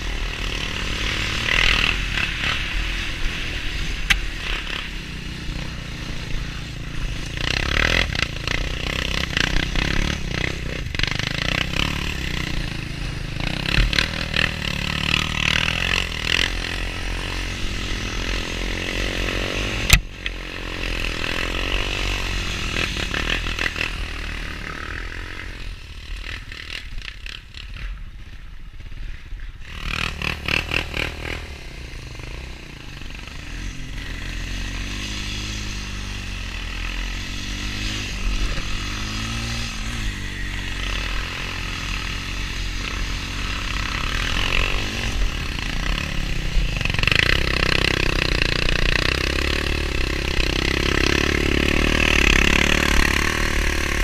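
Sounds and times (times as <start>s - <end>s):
atv engines running: 0.0s - 54.0s.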